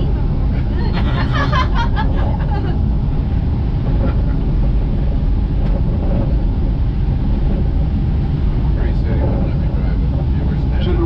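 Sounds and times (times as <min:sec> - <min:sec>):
monorail train rumbling: 0:00.0 - 0:11.0.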